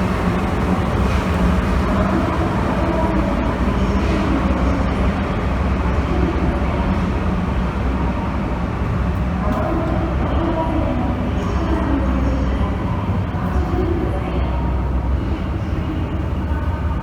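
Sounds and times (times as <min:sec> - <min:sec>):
locomotive engine droning: 0:00.0 - 0:17.0.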